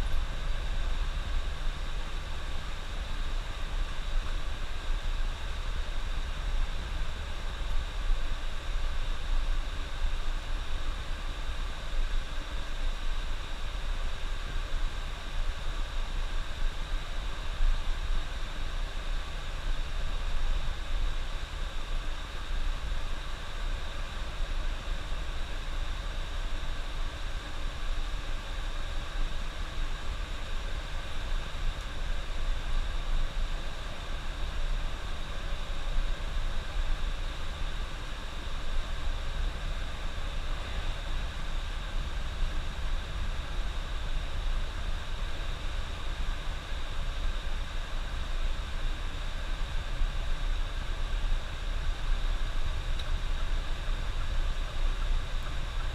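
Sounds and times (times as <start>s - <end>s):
road noise hiss: 0.0s - 55.9s.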